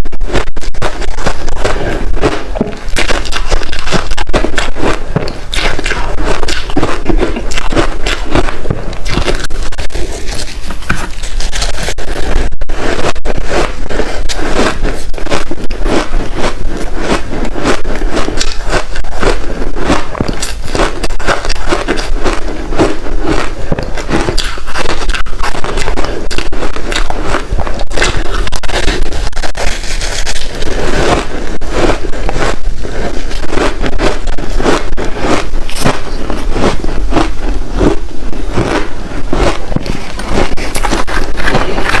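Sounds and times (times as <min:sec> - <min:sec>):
ice crunching in mouth: 0:00.0 - 0:42.0.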